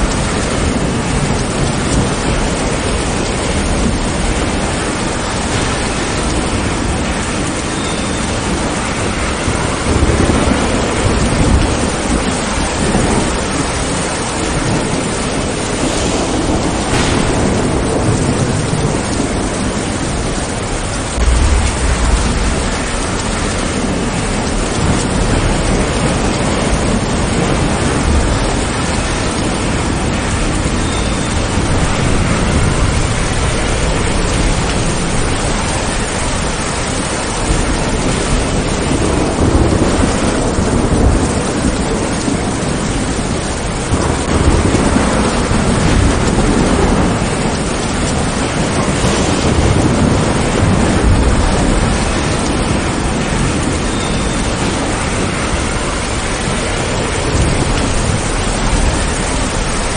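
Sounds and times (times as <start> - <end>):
rain falling on leaves: 0.0 - 59.9
thunder rumbling: 0.0 - 59.9.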